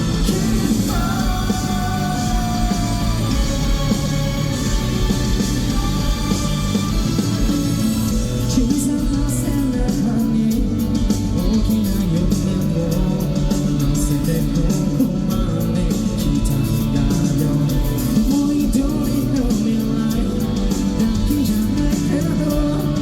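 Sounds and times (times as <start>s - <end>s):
person singing: 0.0s - 23.0s
rock band playing live: 0.0s - 23.0s.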